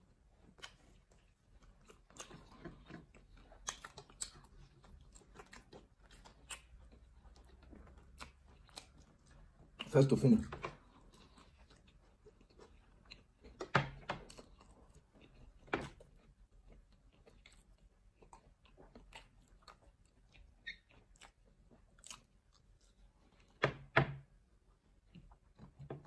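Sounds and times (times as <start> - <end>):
chewing with mouth clicks: 0.0 - 23.6.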